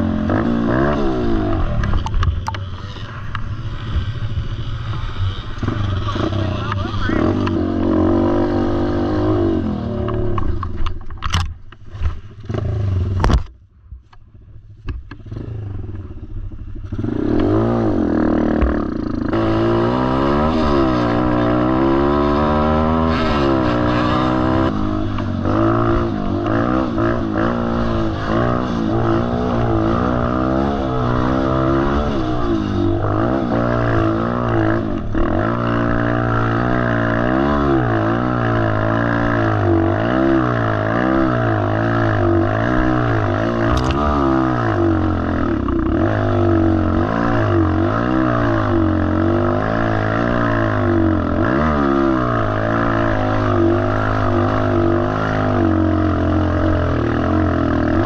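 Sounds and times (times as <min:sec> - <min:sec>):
dirt bike engine revving: 0:00.0 - 0:10.9, 0:15.1 - 0:58.0.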